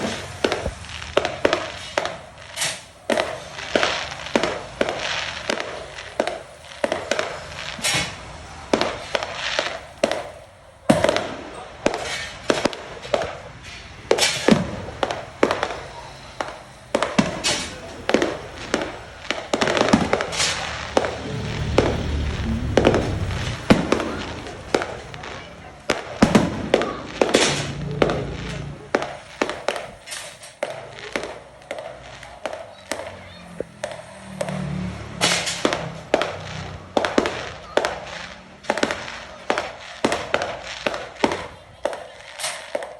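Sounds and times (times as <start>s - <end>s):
fireworks bangs: 0.0s - 42.9s
fireworks crackle: 0.0s - 42.9s.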